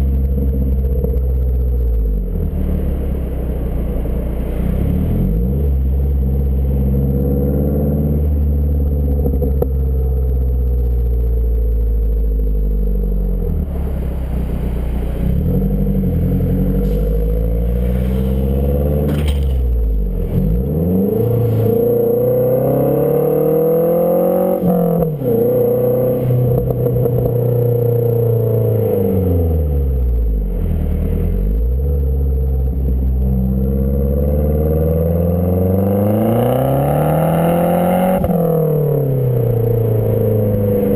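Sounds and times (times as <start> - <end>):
car exhaust revving: 0.0 - 40.9.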